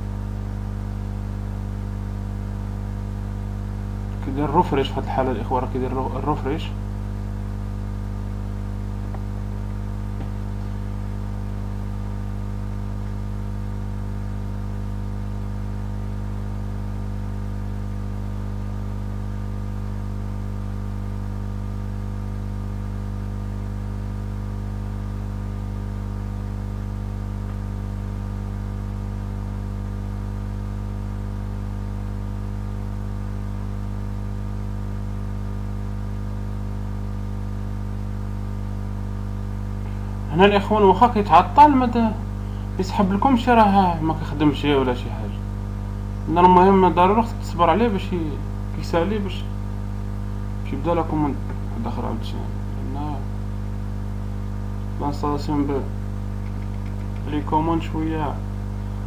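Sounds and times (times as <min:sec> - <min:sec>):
electrical hum with faint hiss: 0:00.0 - 0:59.0.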